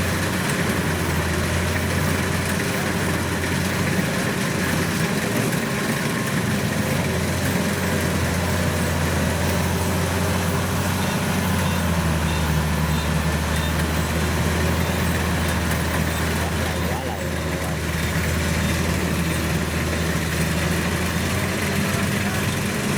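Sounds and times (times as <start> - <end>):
diesel engine humming: 0.0 - 22.9.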